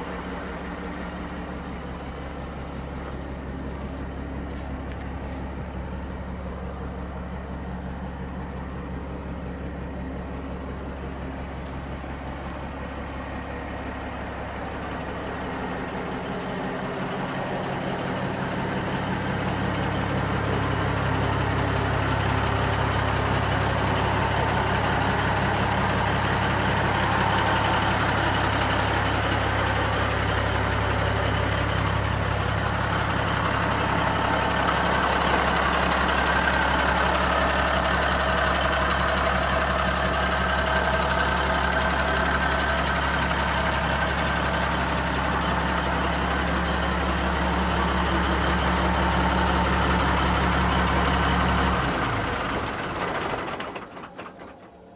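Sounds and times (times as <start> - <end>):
diesel truck engine idling: 0.0 - 54.9.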